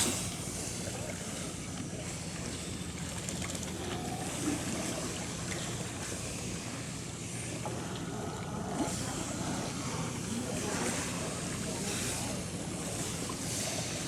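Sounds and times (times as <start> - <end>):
water: 0.0 - 14.0.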